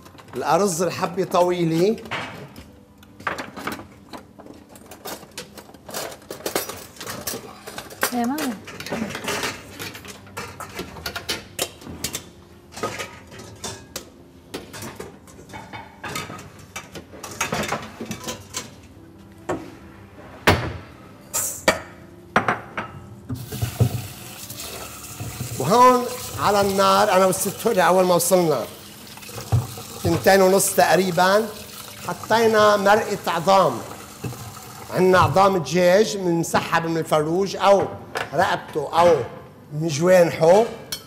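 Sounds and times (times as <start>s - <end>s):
dishes and utensils clinking: 0.0s - 19.7s, 20.5s - 35.6s, 40.4s - 41.0s.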